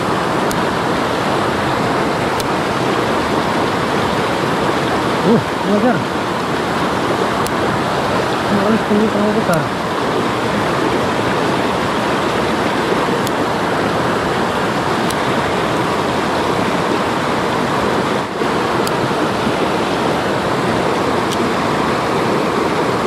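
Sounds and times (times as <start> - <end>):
stream rapids rushing over boulders: 0.0 - 23.0.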